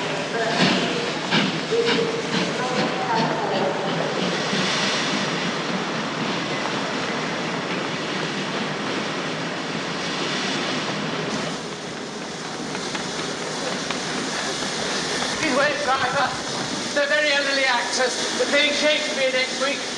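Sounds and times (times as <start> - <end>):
steam locomotive letting off steam: 0.0 - 19.9.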